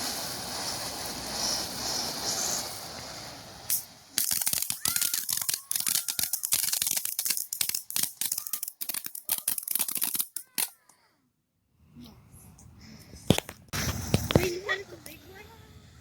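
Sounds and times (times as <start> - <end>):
fireworks popping and crackling: 0.0 - 10.8, 13.2 - 15.4
fireworks whistling: 0.0 - 10.8, 13.3 - 15.4.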